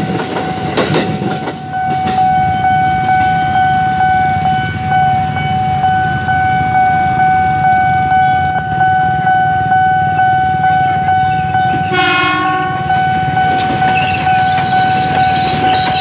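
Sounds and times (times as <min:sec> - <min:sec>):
level-crossing alarm pulsing: 0:00.0 - 0:16.0.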